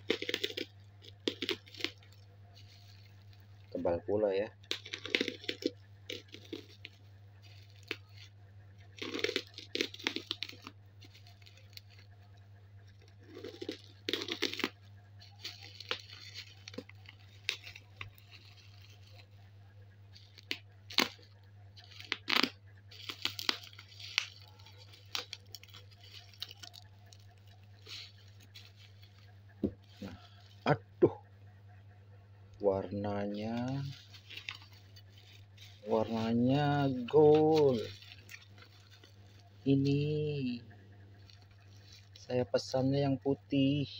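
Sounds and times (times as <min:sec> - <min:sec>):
bubble wrap crinkling and tearing: 0:00.0 - 0:30.7, 0:32.7 - 0:42.5
steady low hum: 0:00.0 - 0:43.9.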